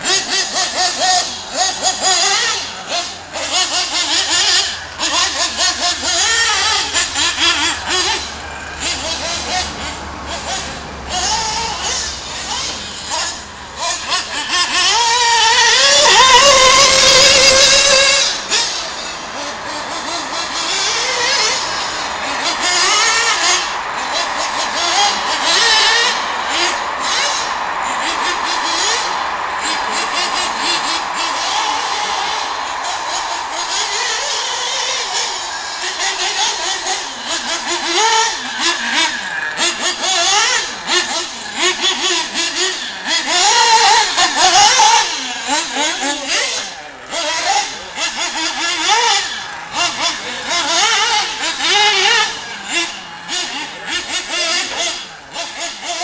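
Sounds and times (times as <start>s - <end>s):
rc car motor buzzing whine: 0.0s - 56.0s.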